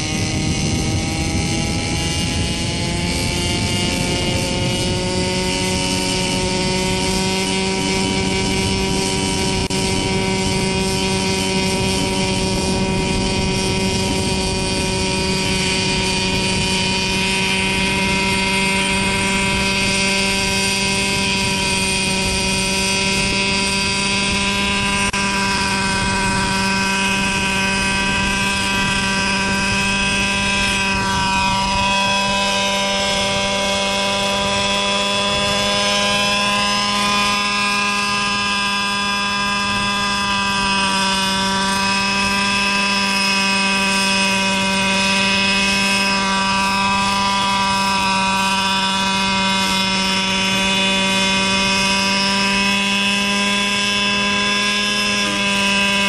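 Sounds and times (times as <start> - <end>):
model helicopter engine running: 0.0 - 56.0
rotors spinning: 0.0 - 56.0.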